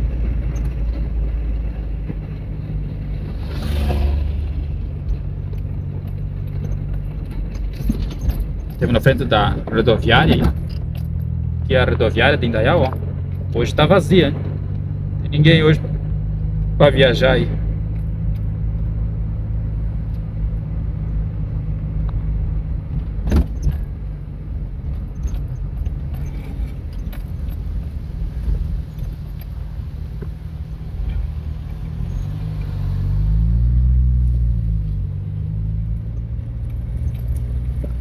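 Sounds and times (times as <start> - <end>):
car engine hum: 0.0 - 38.0
road noise: 0.0 - 38.0.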